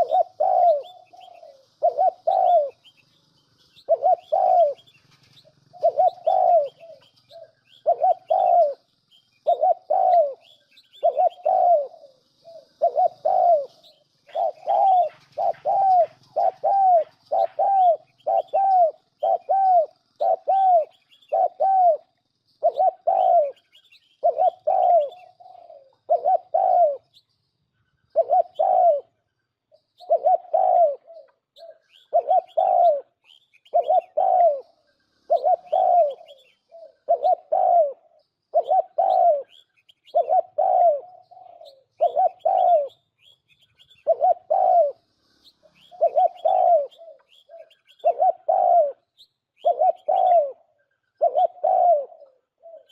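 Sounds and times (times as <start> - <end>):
dove cooing: 0.0 - 27.2, 28.1 - 52.9
small birds chirping: 0.0 - 52.9.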